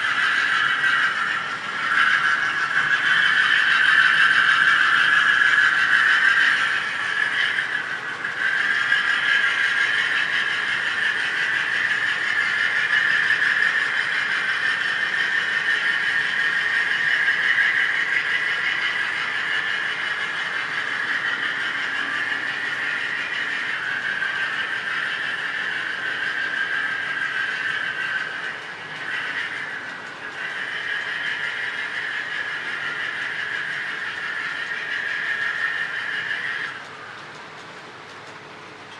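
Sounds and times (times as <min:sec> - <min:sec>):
model train wheels rolling: 0:00.0 - 0:38.9.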